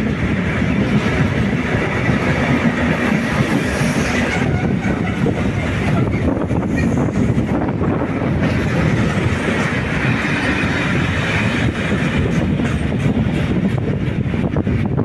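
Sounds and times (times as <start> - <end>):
wheels clicking over rail joints: 0.0 - 14.5
train wheels rumbling on rail: 0.0 - 15.0.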